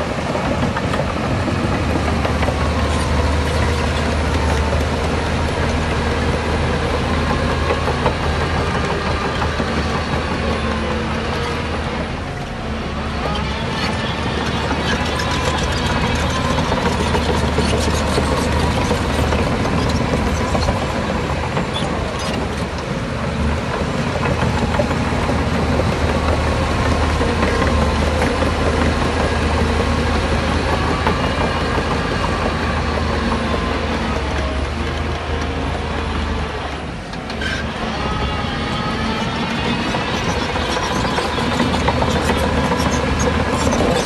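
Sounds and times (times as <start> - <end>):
heavy diesel machinery engine hum: 0.0 - 44.0.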